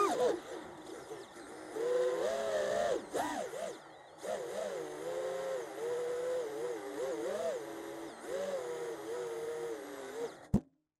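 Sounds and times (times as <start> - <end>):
quadcopter motors whining: 0.0 - 10.5.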